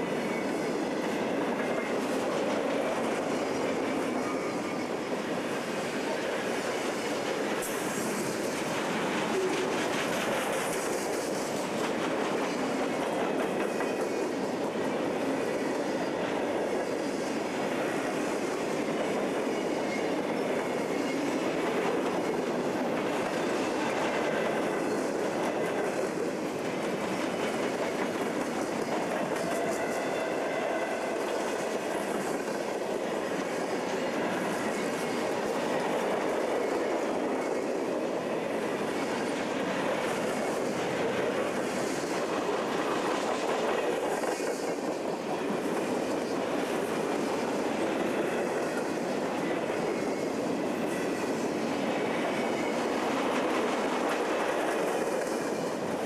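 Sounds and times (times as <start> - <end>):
steel wheels clattering on rails: 0.0 - 56.0.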